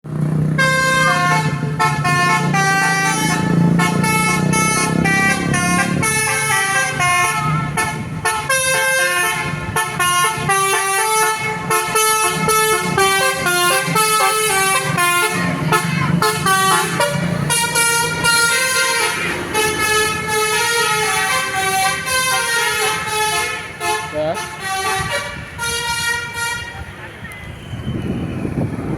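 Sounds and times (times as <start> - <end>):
multi-tone musical bus horn: 0.2 - 28.6.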